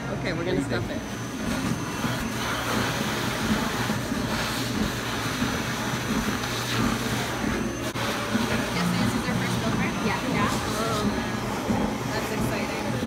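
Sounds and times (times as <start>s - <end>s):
blower air rush with low hum: 0.0s - 13.0s.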